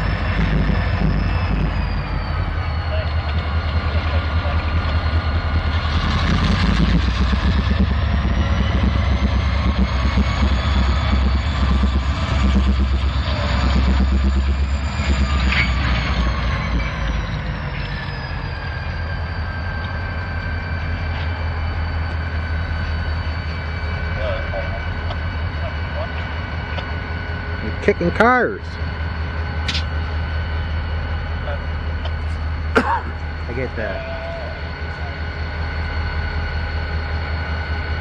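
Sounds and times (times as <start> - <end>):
diesel locomotive engine rumble: 0.0 - 38.0
thin high whine: 0.0 - 38.0.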